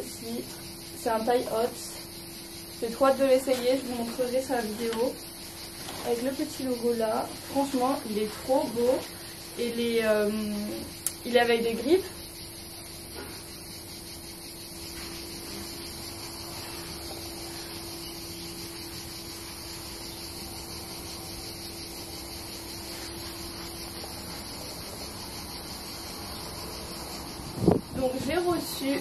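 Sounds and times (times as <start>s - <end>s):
faint constant hum: 0.0s - 29.0s
steady background hiss: 0.0s - 29.0s.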